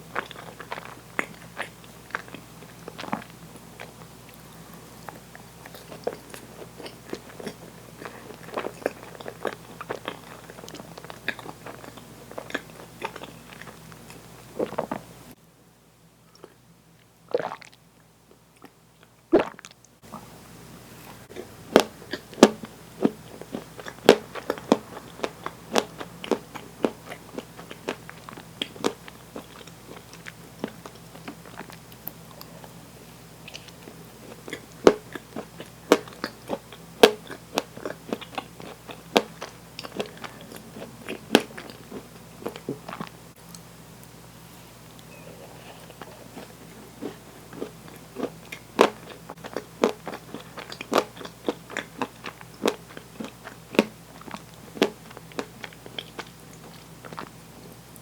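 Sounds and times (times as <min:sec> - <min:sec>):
person chewing crunchy food: 0:00.0 - 0:15.1, 0:17.3 - 0:17.8, 0:21.0 - 0:43.6, 0:44.9 - 0:57.8.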